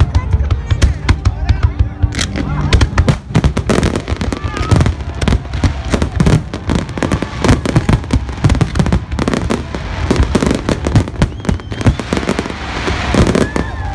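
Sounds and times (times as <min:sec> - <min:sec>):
fireworks barrage bangs and crackling: 0:00.0 - 0:13.9.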